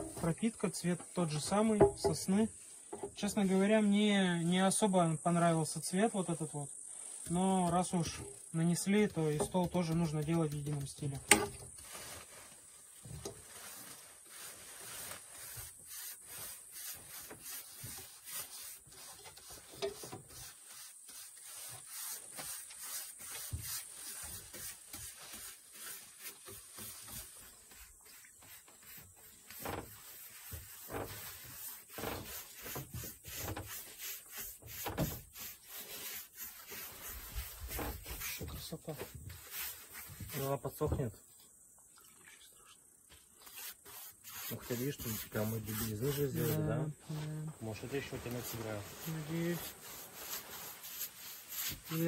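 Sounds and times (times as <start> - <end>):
paintbrush strokes on rough wood: 0.0 - 40.9, 43.1 - 52.0.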